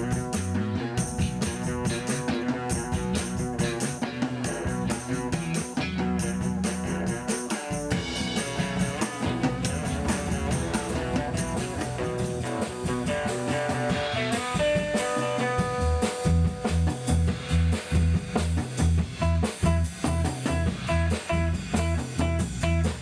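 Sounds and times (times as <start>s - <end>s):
pulsing bass: 0.0s - 14.9s, 15.5s - 23.0s
drums: 0.0s - 23.0s
electric guitar: 0.0s - 23.0s.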